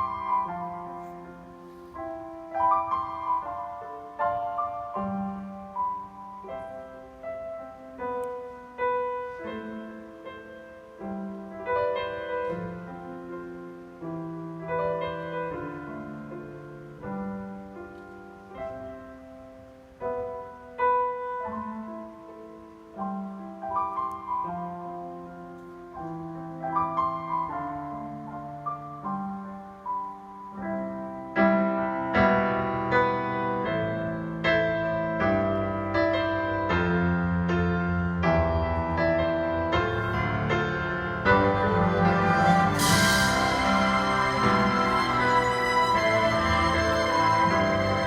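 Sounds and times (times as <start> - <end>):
piano ballad: 0.0 - 48.0.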